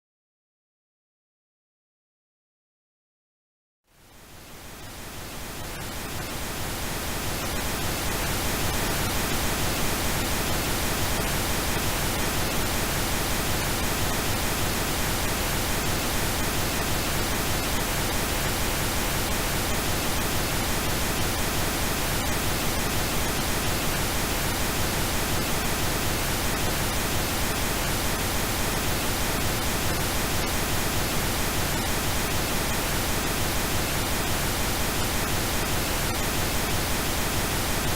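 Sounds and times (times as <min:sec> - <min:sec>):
pink noise hiss: 0:03.9 - 0:37.9.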